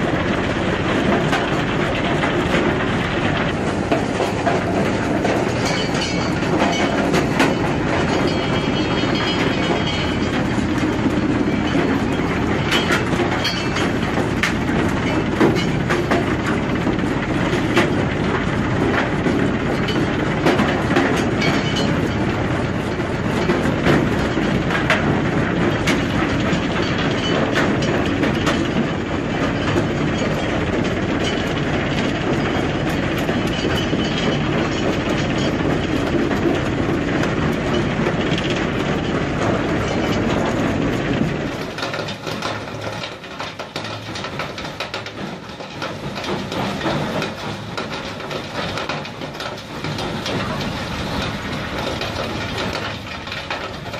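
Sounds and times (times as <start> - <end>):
crushing machine rumbling: 0.0 - 53.9.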